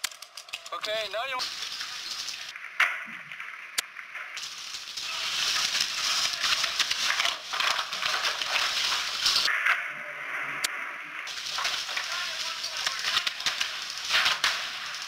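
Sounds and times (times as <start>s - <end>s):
dense rattling crackling noise: 0.0s - 15.0s.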